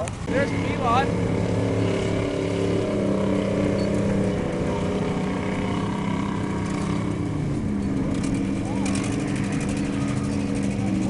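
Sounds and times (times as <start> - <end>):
truck engine running under load: 0.1 - 11.0.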